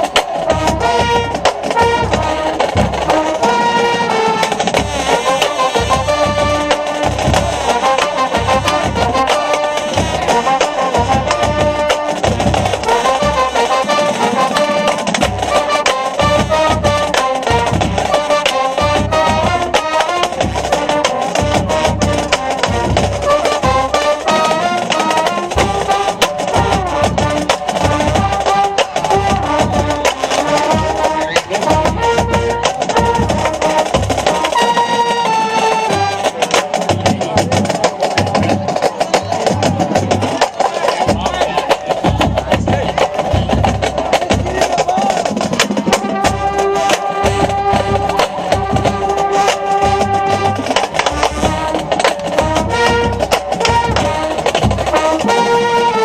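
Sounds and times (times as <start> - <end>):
marching band brass melody: 0.0 - 56.0
steady drum beat: 0.0 - 56.0.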